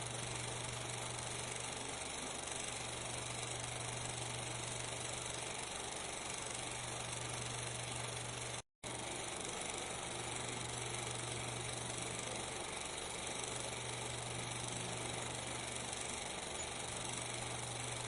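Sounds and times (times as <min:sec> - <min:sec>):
constant low hum: 0:00.0 - 0:18.0.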